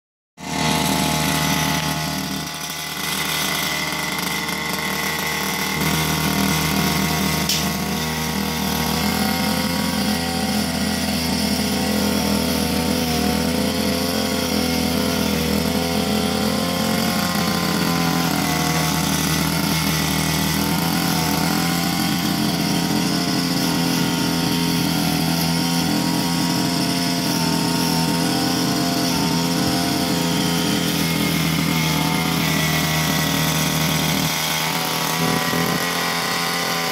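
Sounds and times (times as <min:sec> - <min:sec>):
brush cutter engine running: 0:00.4 - 0:36.9.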